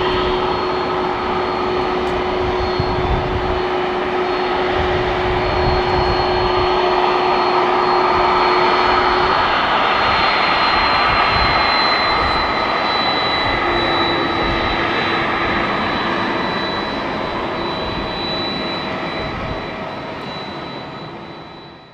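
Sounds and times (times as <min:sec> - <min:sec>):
jet engines roaring with high whine: 0:00.0 - 0:21.9.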